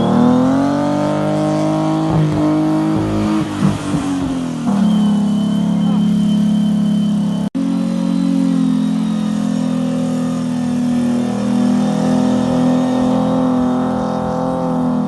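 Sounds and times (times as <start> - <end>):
engine revving high: 0.0 - 15.0.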